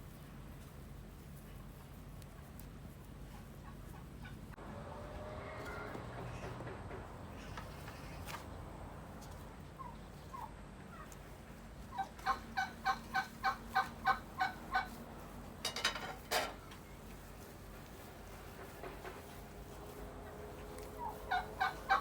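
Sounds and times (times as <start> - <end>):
farmyard bird calling: 2.2 - 22.0.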